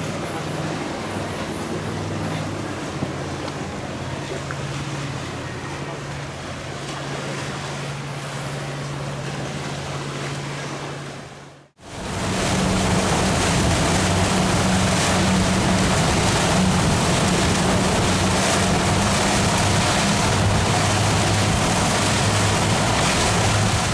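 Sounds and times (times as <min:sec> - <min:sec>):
boat engines droning: 0:00.0 - 0:23.9
water rushing: 0:00.0 - 0:23.9
wind: 0:00.0 - 0:23.9.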